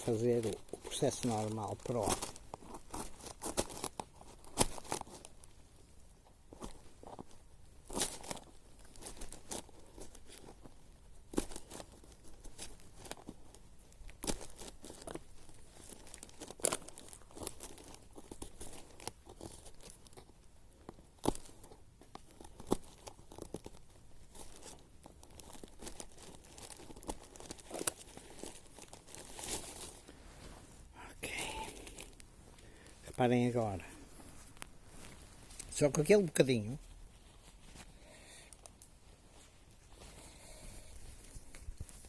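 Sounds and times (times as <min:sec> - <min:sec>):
tinder rustling: 0:00.0 - 0:42.0.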